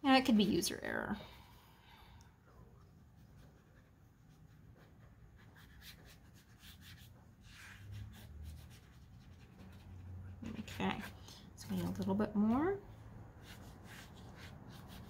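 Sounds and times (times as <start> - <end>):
brush scratching on paper: 2.8 - 15.0.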